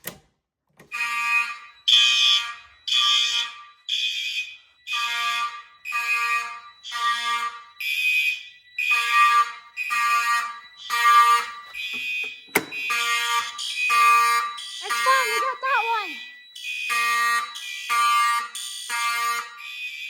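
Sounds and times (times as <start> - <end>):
fire alarm horn blasts: 0.8 - 20.0.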